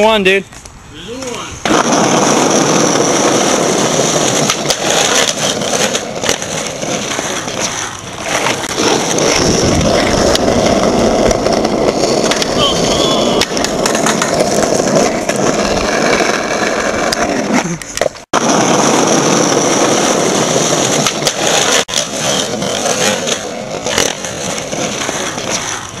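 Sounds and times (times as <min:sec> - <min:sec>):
skateboard wheels on asphalt: 0:00.0 - 0:26.0.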